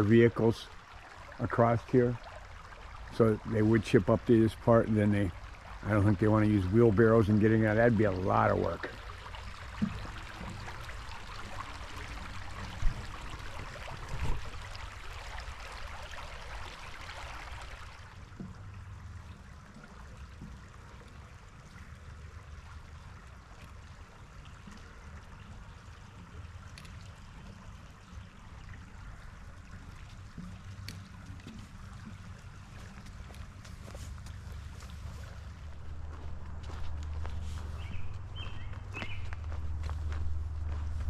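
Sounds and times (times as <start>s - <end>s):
creek running and trickling: 0.0s - 41.0s.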